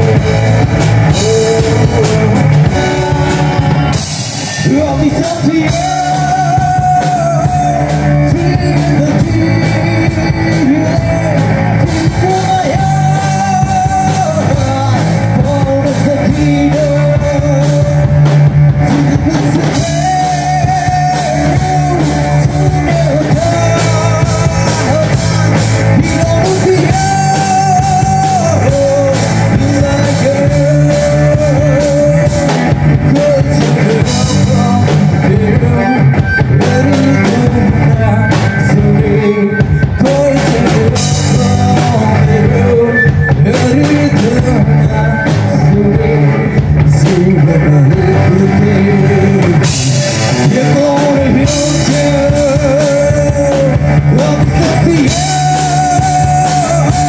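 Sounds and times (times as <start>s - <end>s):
rock song with singing: 0.0s - 57.0s.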